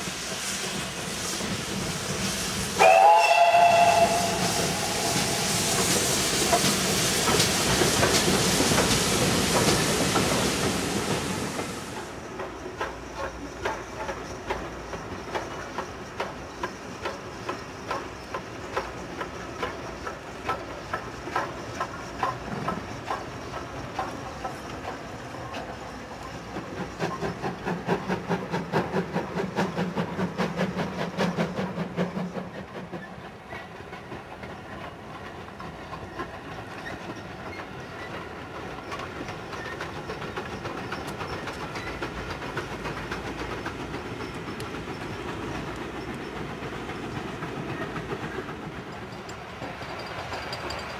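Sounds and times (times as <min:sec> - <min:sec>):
train low rumble: 0:00.0 - 0:50.9
train wheels clicking on rail joints: 0:00.0 - 0:50.9.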